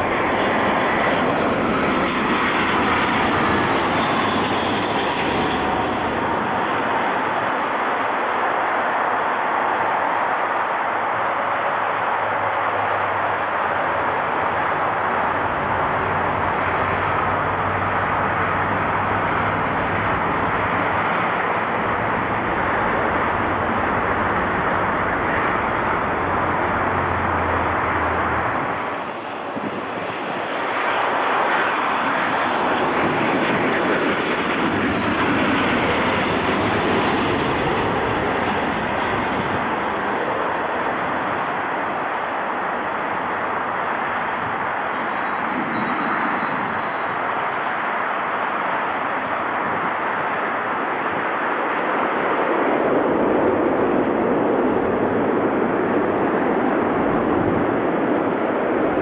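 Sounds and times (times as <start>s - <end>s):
high wavering engine whine: 0.0s - 8.5s, 10.9s - 49.8s
jet engines roaring: 0.0s - 59.0s.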